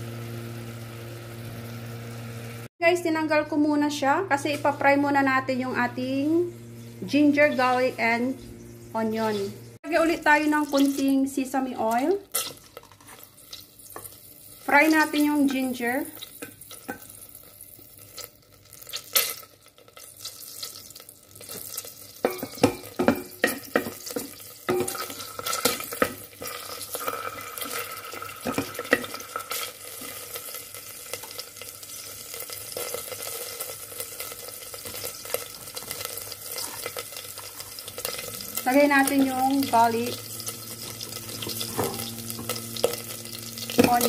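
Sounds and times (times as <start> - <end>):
ginger sizzling in oil: 0.0 - 2.7, 4.0 - 44.0.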